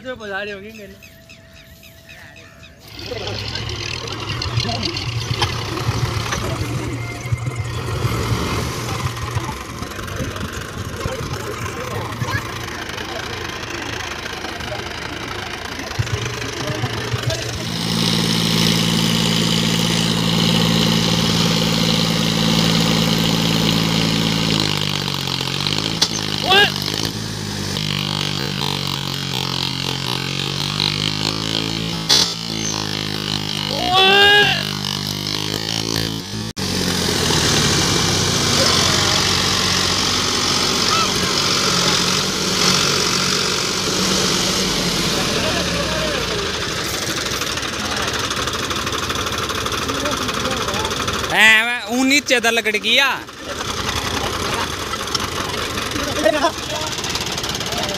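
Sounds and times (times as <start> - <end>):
tractor engine revving: 0.0 - 57.9.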